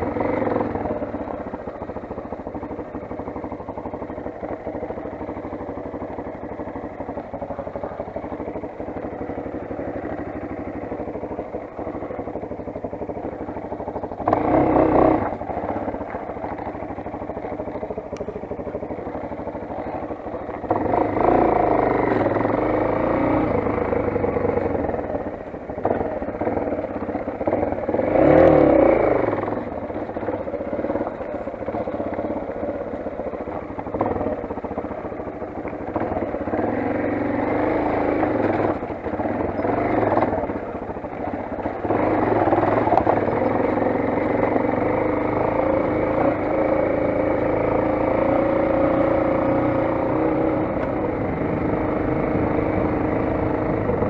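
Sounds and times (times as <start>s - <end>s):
dirt bike engine revving: 0.0s - 2.3s, 3.4s - 54.0s.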